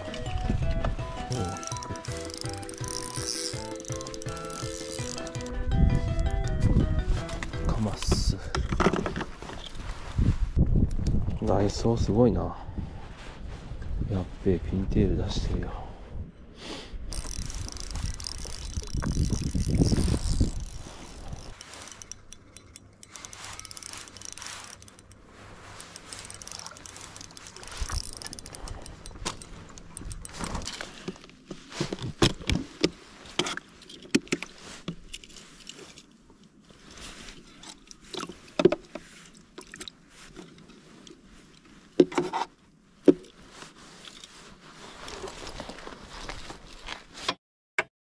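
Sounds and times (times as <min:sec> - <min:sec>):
rustling and scraping: 0:00.0 - 0:12.0, 0:17.1 - 0:47.4.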